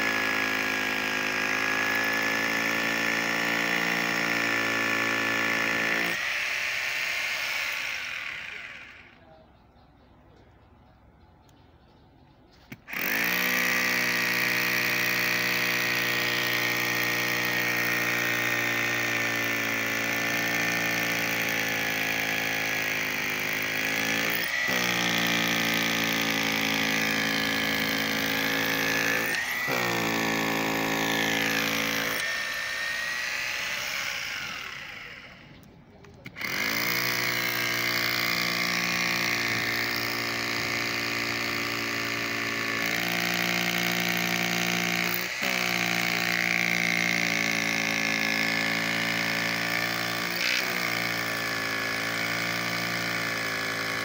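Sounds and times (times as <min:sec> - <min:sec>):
power drill boring into concrete: 0:00.0 - 0:09.2, 0:12.7 - 0:54.0.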